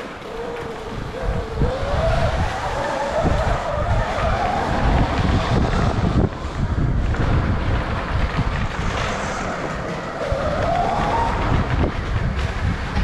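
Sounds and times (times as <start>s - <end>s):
tyres chain and suspension rattling: 0.0s - 13.0s
wind on microphone: 0.0s - 13.0s.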